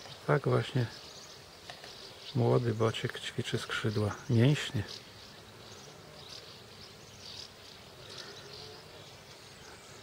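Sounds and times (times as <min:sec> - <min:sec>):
background hiss: 0:00.0 - 0:10.0.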